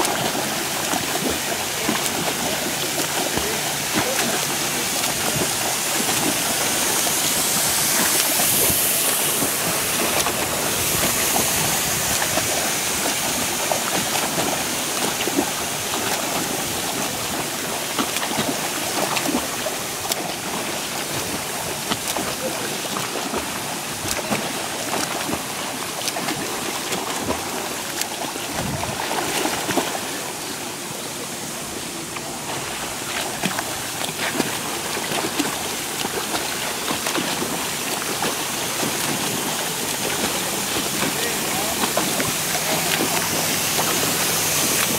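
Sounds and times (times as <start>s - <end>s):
swimmer splashing water: 0.0s - 44.9s.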